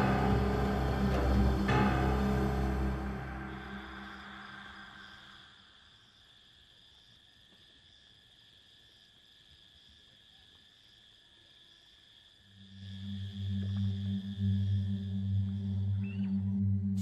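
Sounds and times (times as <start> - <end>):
night insects droning: 0.0 - 17.0.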